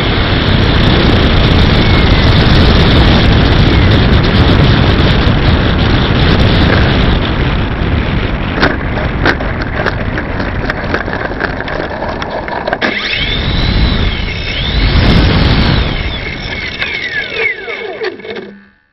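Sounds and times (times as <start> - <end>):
electric motor whine: 0.0 - 18.9
rumble of wheels over grass: 0.0 - 18.9.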